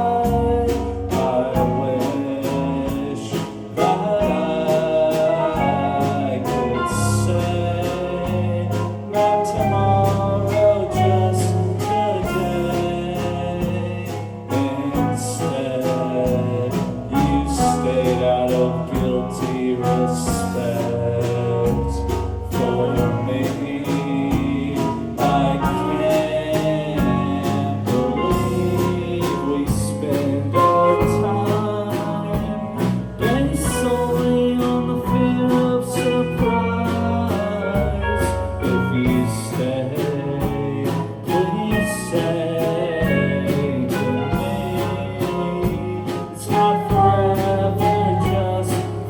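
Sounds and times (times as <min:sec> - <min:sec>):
live band with guitar: 0:00.0 - 0:49.0
person singing: 0:00.0 - 0:49.0.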